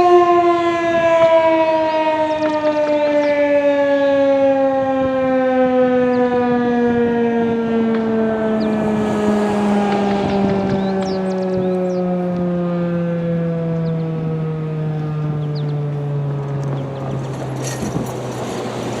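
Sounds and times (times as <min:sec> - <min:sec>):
warning siren winding down: 0:00.0 - 0:19.0.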